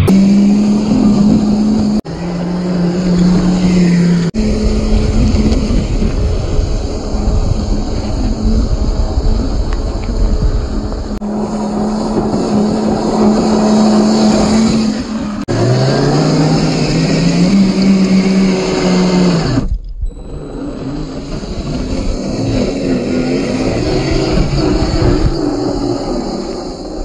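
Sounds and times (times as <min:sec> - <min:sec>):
electric motor whining: 0:00.0 - 0:27.0
tyres churning dirt: 0:00.0 - 0:27.0.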